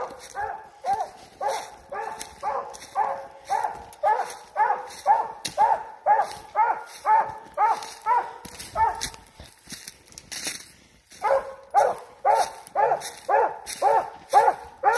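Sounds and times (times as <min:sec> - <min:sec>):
dog barking: 0:00.0 - 0:09.4, 0:11.1 - 0:14.9.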